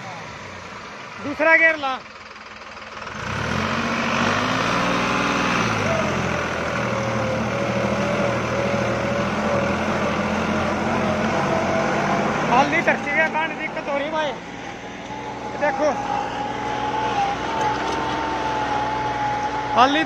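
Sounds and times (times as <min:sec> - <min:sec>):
tractor diesel engine: 0:00.0 - 0:20.0.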